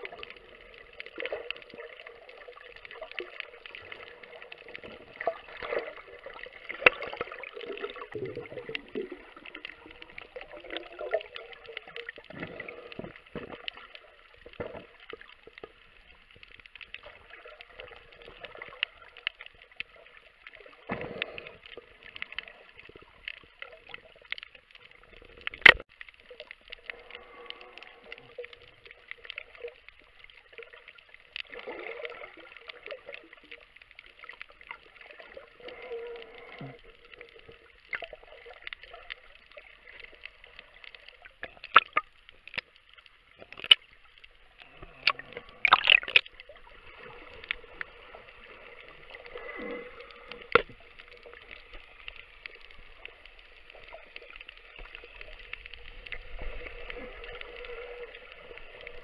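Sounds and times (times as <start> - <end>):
underwater gurgling and bubbling: 0.0 - 59.0.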